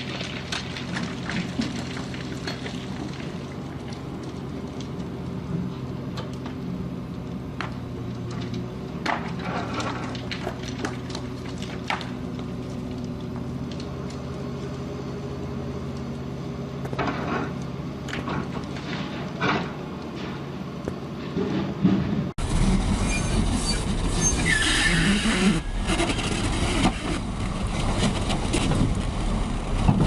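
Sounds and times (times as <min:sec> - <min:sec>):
heavy machine engine running: 0:00.0 - 0:24.5.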